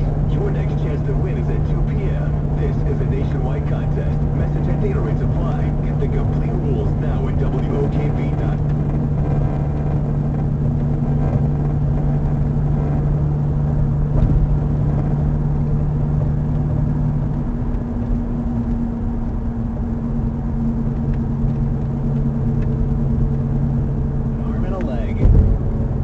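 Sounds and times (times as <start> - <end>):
droning vibration hum: 0.0 - 26.0
road rumble: 0.0 - 26.0.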